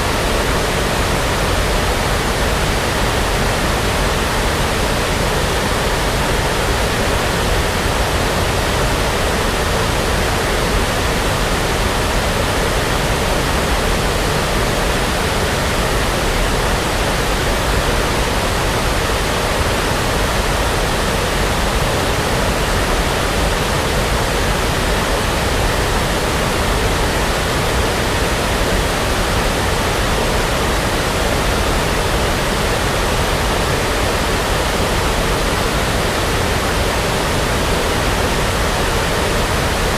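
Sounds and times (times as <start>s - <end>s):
brown noise hiss and rumble: 0.0s - 39.9s.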